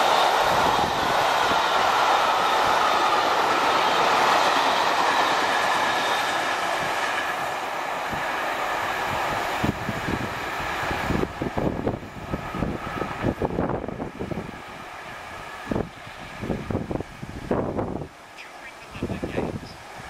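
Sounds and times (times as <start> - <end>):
train wheels rolling on rails: 0.0 - 18.1
wind buffeting microphone: 0.0 - 18.2, 18.9 - 20.0.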